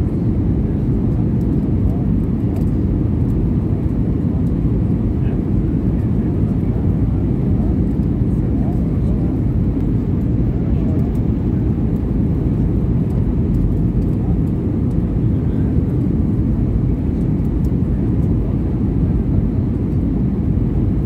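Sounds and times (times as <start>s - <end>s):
airplane cabin engine rumble: 0.0s - 21.0s.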